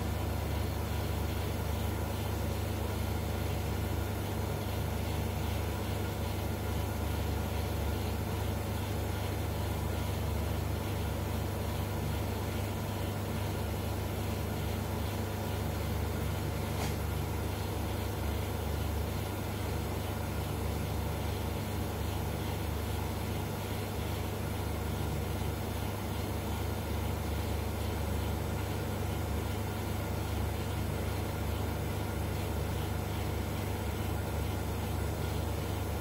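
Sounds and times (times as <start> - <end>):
electrical hum with hiss: 0.0 - 36.0.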